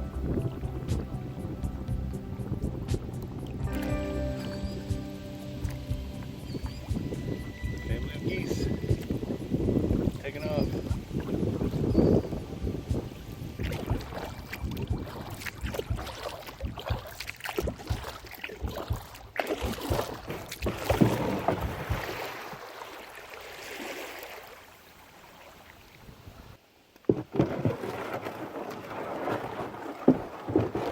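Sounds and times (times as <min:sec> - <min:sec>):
paddle water splashing: 0:00.0 - 0:30.9
running water: 0:00.0 - 0:30.9.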